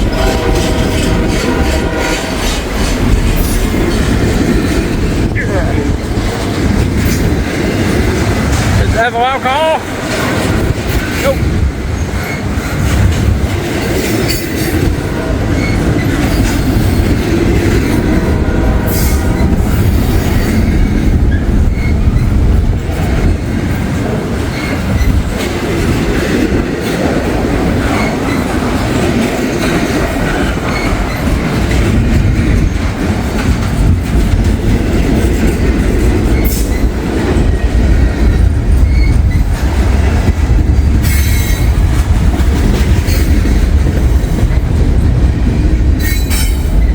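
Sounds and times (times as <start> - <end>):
railcars rumbling past: 0.0 - 46.9
wheels clacking over rail joints: 0.0 - 46.9.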